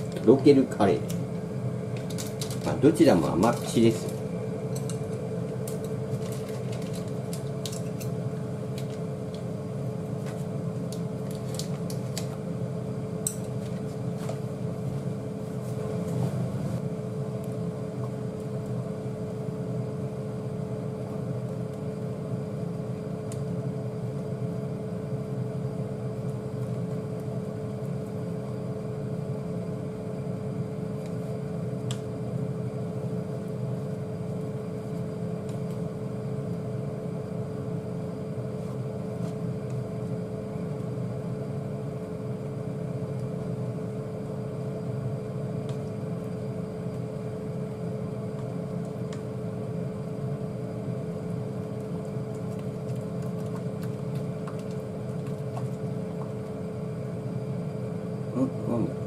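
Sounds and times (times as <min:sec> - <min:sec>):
appliance fan hum: 0:00.0 - 0:59.0.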